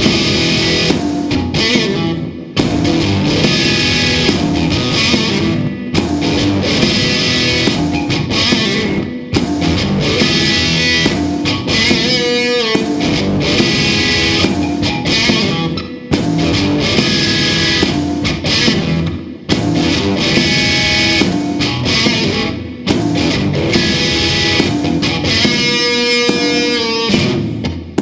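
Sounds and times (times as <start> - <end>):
blues guitar over a beat: 0.0 - 28.0.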